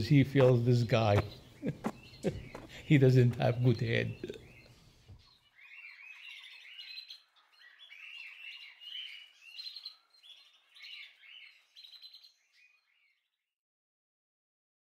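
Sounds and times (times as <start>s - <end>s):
small birds chirping: 0.0s - 13.5s.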